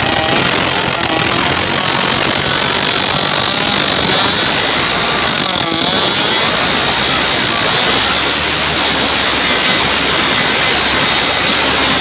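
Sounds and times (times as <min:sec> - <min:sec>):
propeller churning water: 0:00.0 - 0:12.0
small petrol engine running: 0:00.0 - 0:12.0.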